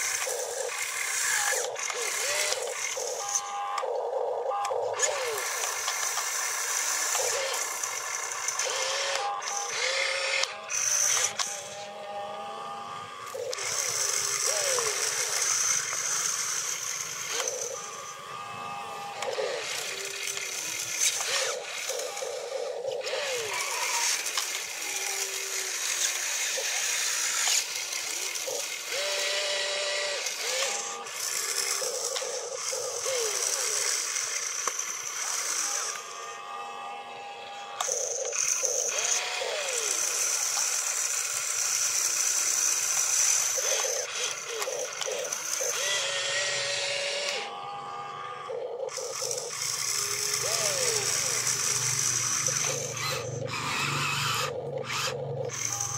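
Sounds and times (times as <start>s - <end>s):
small motors whirring: 0.0s - 55.9s.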